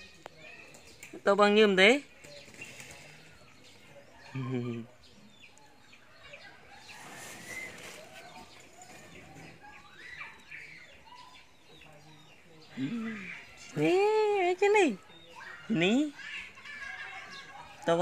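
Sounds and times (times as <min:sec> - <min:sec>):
scattered bird calls: 0:00.0 - 0:18.0.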